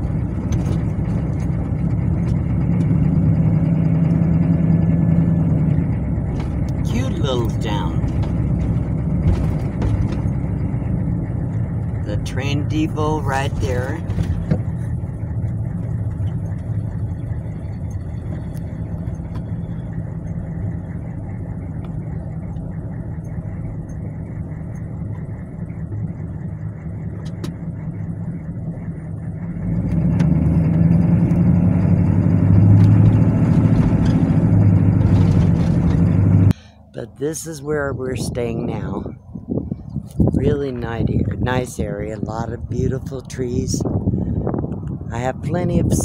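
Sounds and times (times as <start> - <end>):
truck engine and road noise: 0.0 - 46.0.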